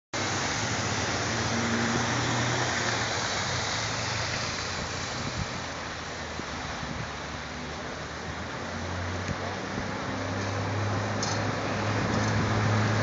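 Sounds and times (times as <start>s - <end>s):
steady rushing noise: 0.2s - 13.0s.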